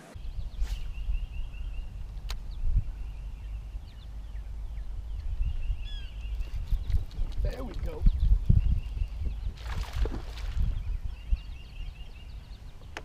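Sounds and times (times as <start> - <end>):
birds chirping: 0.0 - 13.0
wind rumble on microphone: 0.1 - 13.0.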